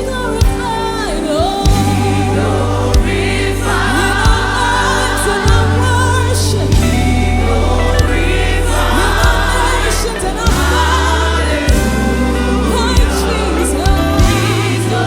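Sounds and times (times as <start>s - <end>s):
choir singing gospel song: 0.0s - 15.0s
live band playing: 0.0s - 15.0s.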